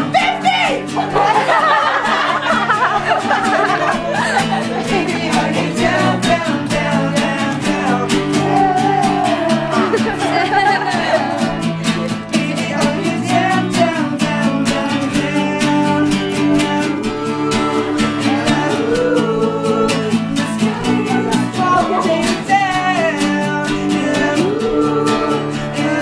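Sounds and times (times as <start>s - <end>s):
acoustic guitars strummed: 0.0s - 26.0s
people singing: 0.0s - 26.0s.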